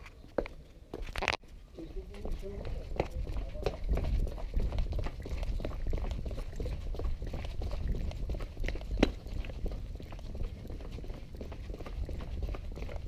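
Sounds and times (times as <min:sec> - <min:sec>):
wind: 0:00.0 - 0:13.0
running footsteps on wet path: 0:02.0 - 0:13.0.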